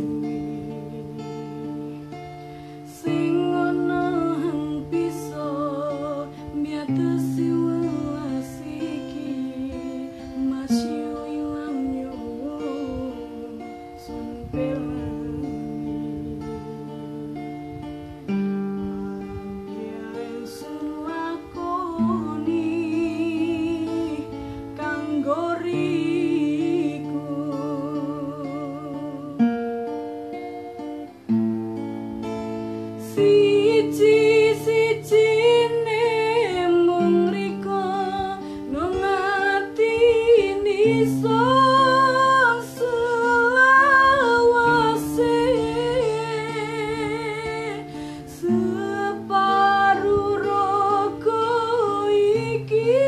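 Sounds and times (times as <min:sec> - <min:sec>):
woman singing with vibrato: 0:00.0 - 0:29.9, 0:32.8 - 0:53.0
acoustic guitar chords: 0:00.0 - 0:53.0.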